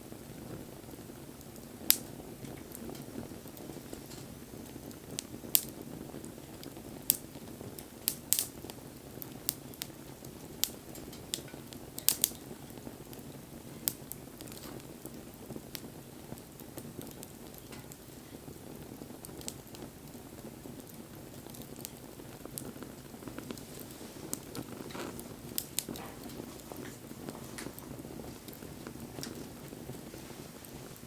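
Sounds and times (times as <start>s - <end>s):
low rushing of flames: 0.0s - 31.0s
wood fire crackling and popping: 0.0s - 31.0s.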